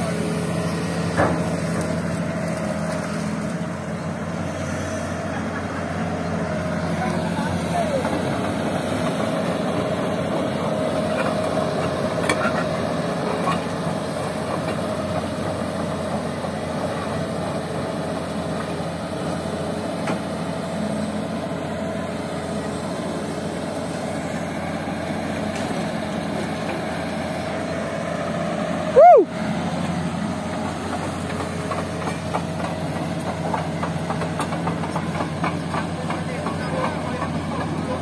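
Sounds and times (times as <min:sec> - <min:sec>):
diesel engines running: 0:00.0 - 0:38.0.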